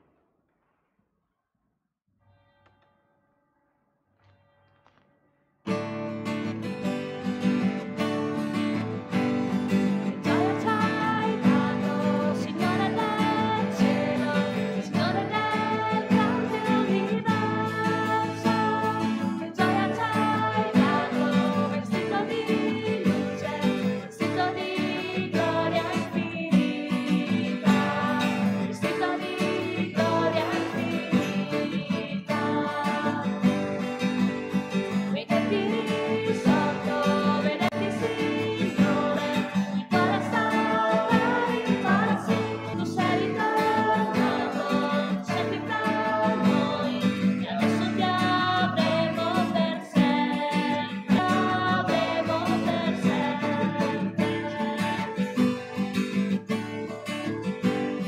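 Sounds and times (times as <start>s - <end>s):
acoustic guitar: 4.2s - 58.0s
hymn singing: 8.7s - 56.2s.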